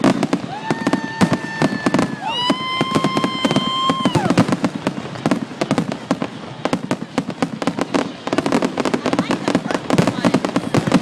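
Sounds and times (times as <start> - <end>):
firework whistling: 0.0 - 11.0
fireworks bangs and crackles: 0.0 - 11.0.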